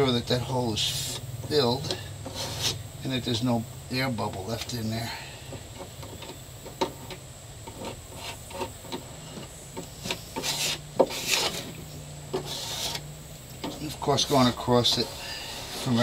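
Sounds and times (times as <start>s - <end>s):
spreader blade scraping on hull: 0.0s - 3.5s, 4.2s - 16.0s.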